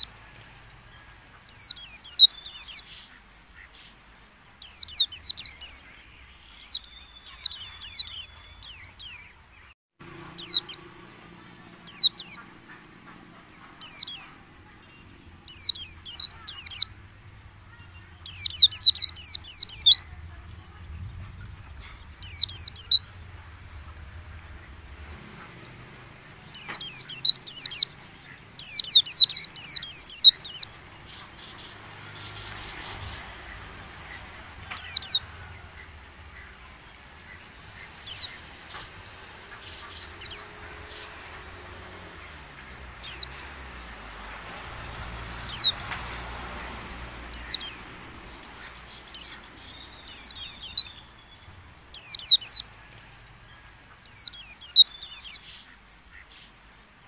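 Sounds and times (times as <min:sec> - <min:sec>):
bird twittering: 0:01.4 - 0:03.9, 0:04.6 - 0:09.4, 0:10.3 - 0:41.4, 0:42.5 - 0:44.0, 0:45.0 - 0:46.0, 0:47.3 - 0:52.7, 0:54.1 - 0:56.5.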